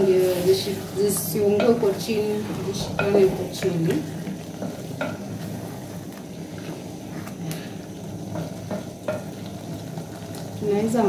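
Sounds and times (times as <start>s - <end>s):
food sizzling: 0.0s - 11.0s
wooden spoon scraping pot: 0.0s - 11.0s.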